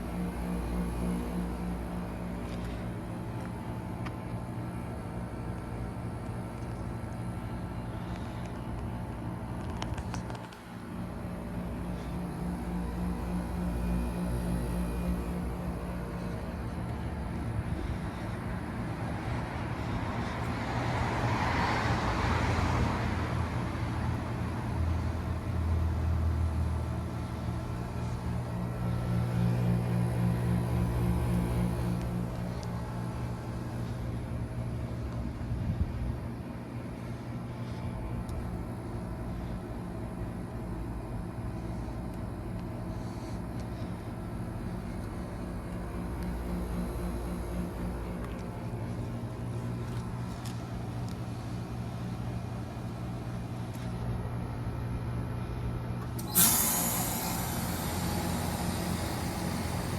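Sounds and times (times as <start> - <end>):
heat pump compressor hum: 0.0 - 59.9.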